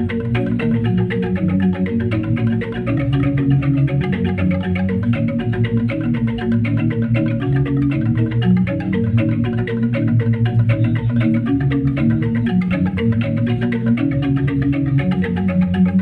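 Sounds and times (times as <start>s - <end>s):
gamelan metallophones playing: 0.0s - 16.0s.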